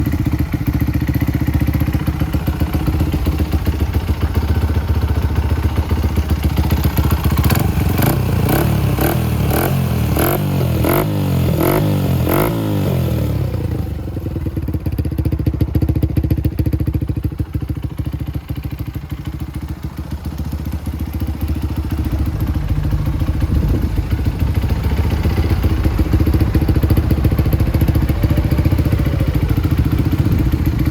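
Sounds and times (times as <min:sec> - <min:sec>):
small engine idling: 0:00.0 - 0:30.9.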